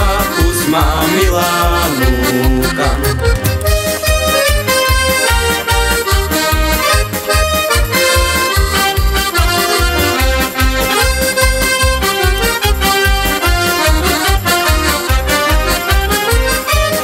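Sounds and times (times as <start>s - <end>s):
accordion melody: 0.0s - 17.0s
steady bass beat: 0.0s - 17.0s.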